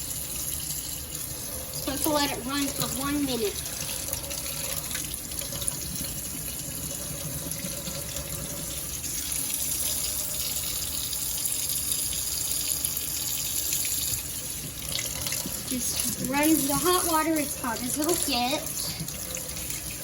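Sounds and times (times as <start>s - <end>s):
faucet running water into sink: 0.0s - 20.0s.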